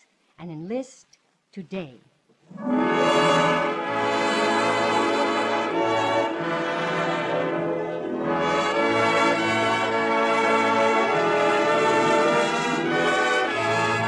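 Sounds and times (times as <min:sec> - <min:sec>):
orchestral brass chords: 0:02.5 - 0:14.0.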